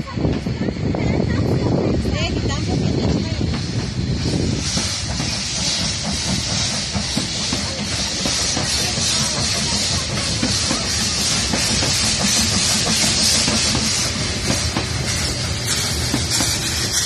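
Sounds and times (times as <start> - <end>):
steam hissing: 0.0 - 17.0
wheels clicking on rail joints: 0.2 - 17.0.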